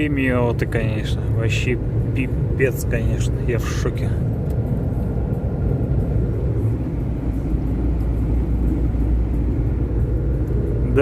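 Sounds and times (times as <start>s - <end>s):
truck engine drone inside cab: 0.0s - 11.0s.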